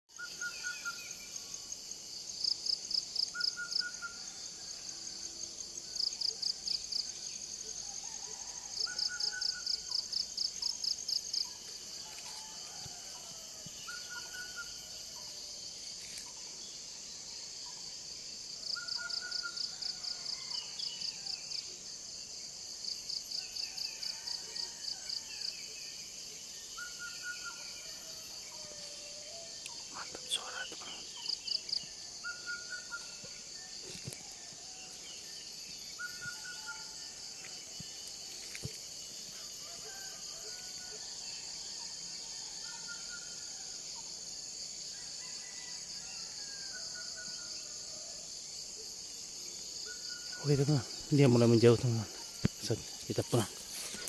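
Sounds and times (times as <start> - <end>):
high insect drone: 0.1 - 54.0
rapid pulsed insect trilling: 0.1 - 54.0.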